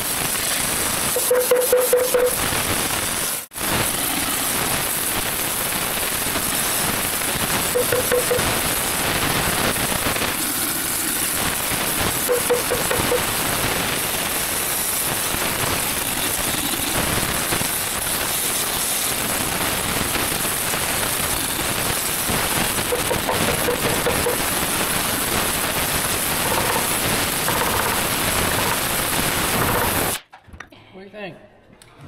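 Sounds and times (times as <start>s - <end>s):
heating torch hissing: 0.0s - 1.5s, 2.1s - 30.2s.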